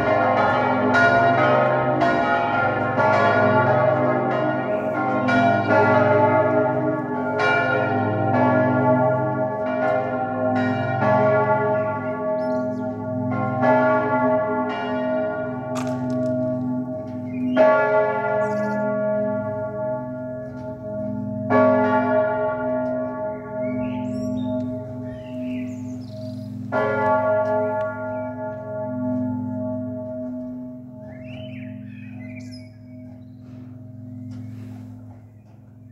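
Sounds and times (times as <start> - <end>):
church bells ringing: 0.0 - 35.9.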